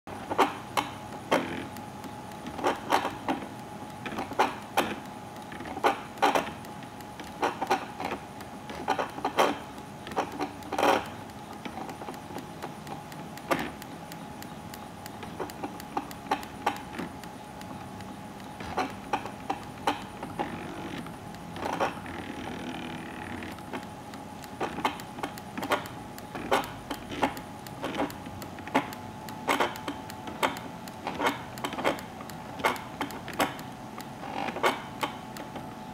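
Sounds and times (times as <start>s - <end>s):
fan hiss: 0.1s - 35.9s
printer head clicks: 0.4s - 35.9s.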